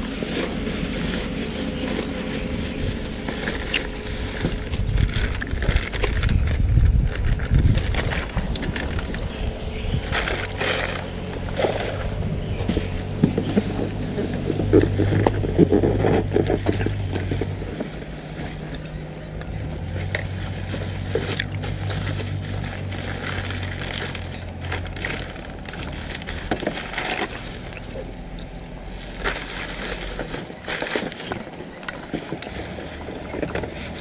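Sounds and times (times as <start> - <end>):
plastic packaging rustling: 0.0 - 9.4, 10.0 - 34.0
low motor hum: 0.0 - 34.0.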